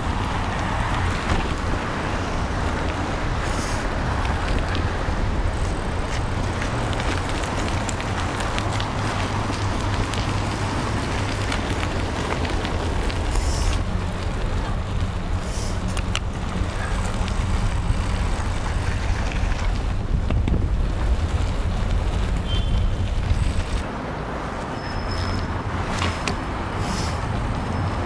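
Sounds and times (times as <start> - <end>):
wind rushing over microphone: 0.0 - 23.9.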